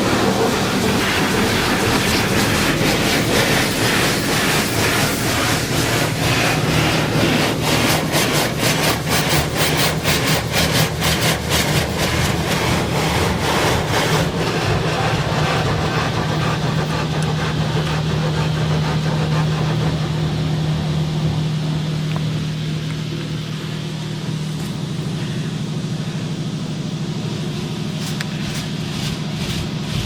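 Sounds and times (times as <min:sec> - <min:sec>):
car wash brushes pulsing: 0:00.0 - 0:30.0
machine hum: 0:00.0 - 0:30.0
rush of noise: 0:00.0 - 0:30.0.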